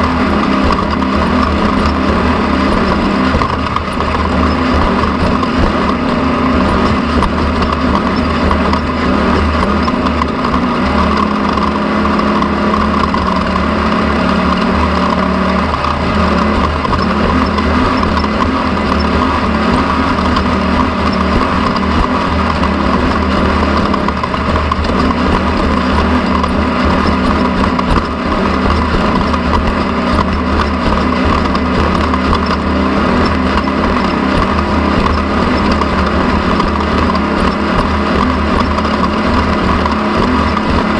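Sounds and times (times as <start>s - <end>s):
motor running steadily: 0.0s - 40.9s.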